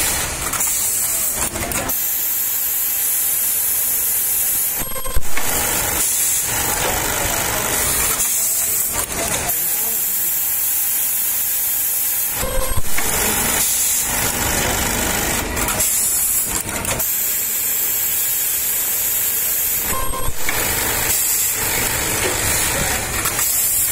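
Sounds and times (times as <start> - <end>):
pneumatic cylinders clattering: 0.0 - 23.9.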